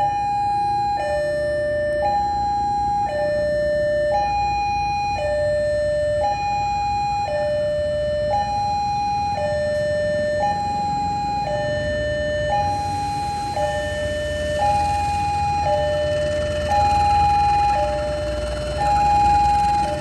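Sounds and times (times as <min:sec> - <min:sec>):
two-tone crossing alarm: 0:00.0 - 0:20.0.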